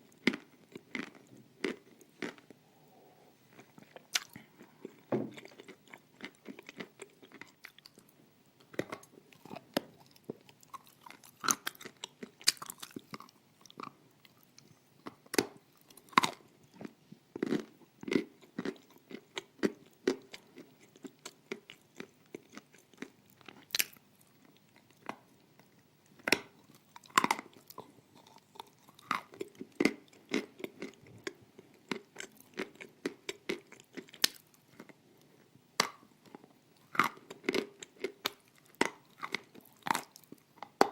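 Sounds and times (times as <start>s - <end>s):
chewing and crunching clay: 0.0s - 2.6s, 3.5s - 40.9s.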